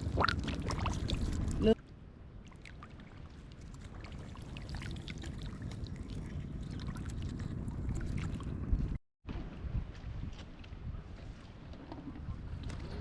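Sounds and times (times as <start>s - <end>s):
shallow water sloshing and splashing: 0.0s - 13.0s.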